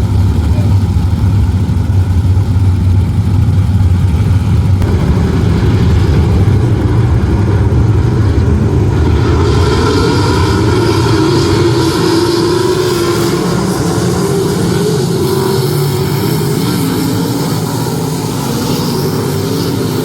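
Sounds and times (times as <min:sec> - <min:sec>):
higher engine note: 0:00.0 - 0:20.0
race car engine running: 0:00.0 - 0:20.0.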